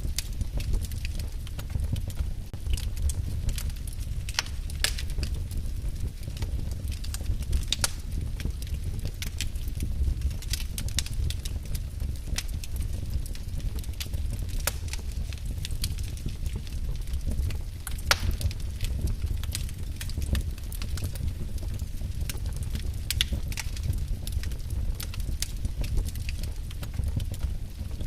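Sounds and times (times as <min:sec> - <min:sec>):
low fire rumble: 0:00.0 - 0:28.0
wood fire crackling: 0:00.0 - 0:28.0.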